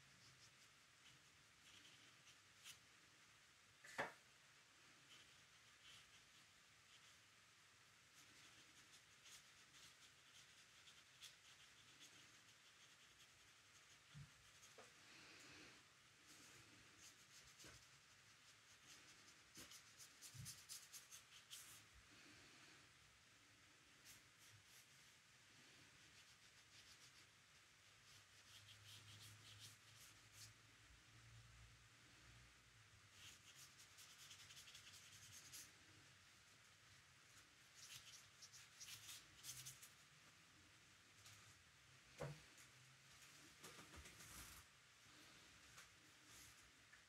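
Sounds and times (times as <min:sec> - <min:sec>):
brush strokes on paper: 0:00.0 - 0:02.9, 0:04.8 - 0:22.7, 0:23.9 - 0:30.6, 0:33.0 - 0:40.4, 0:42.2 - 0:47.0.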